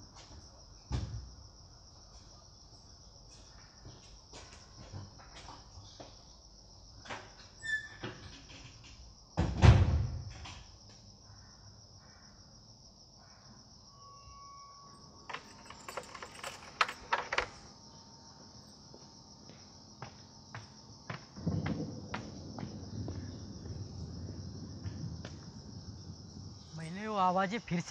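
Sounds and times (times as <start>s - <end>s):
crickets chirping: 0.0s - 27.9s.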